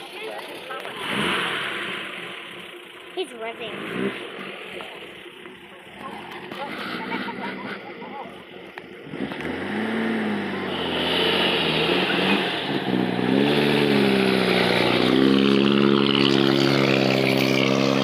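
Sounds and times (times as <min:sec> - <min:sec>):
car engine pulling away: 0:00.0 - 0:18.0.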